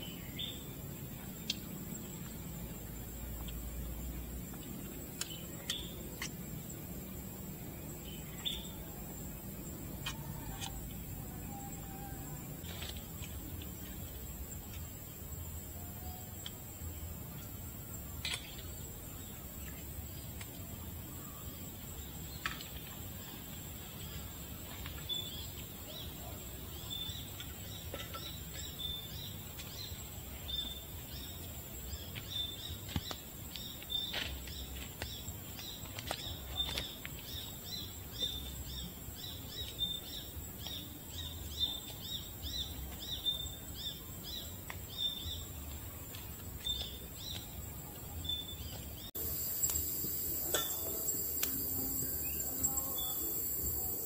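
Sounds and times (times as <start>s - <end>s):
insect drone: 0.0s - 54.0s.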